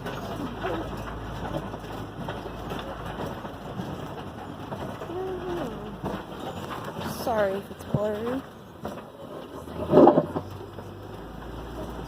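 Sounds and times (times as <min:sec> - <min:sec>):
vehicle rumbling on rough track: 0:00.0 - 0:12.0.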